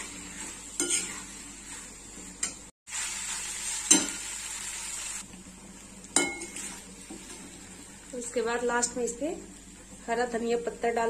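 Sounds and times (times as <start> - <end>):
food sizzling in metal pan: 0.0 - 11.0.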